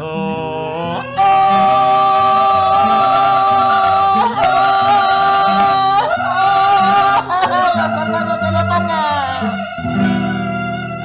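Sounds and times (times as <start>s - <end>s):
man singing long notes: 0.0s - 11.0s
strummed acoustic guitar: 0.0s - 11.0s.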